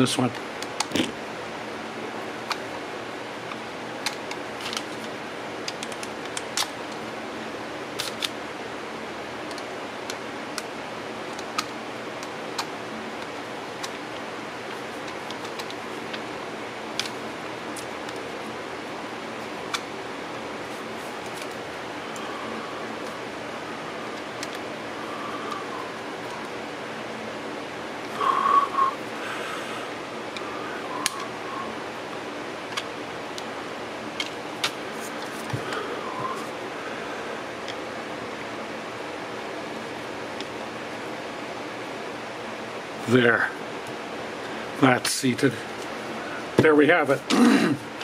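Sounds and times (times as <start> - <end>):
steady low hiss: 0.0 - 48.0.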